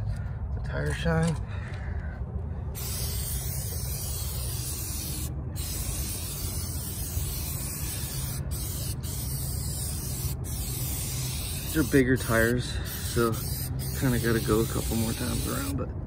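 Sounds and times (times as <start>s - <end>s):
aerosol can spraying hiss: 2.8s - 15.7s.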